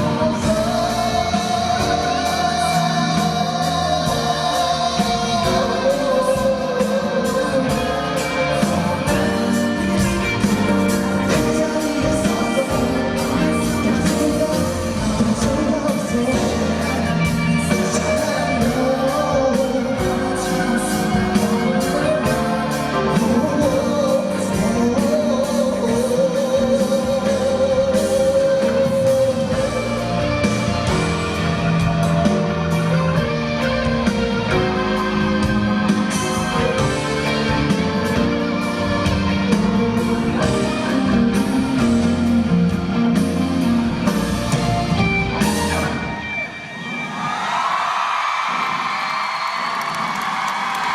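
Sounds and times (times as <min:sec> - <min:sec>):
man singing pop live: 0:00.0 - 0:46.6
band playing with guitar: 0:00.0 - 0:47.3.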